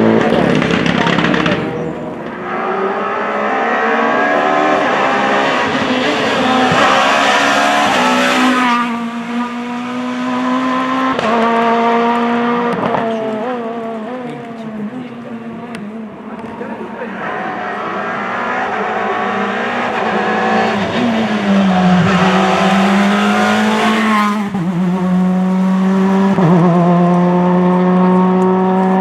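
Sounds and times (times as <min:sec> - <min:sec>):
rally car engine at full throttle: 0:00.0 - 0:29.0.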